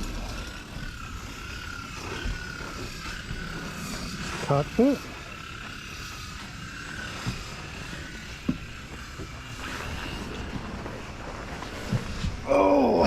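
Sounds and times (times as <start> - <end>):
distant motor drone: 0.0 - 13.0.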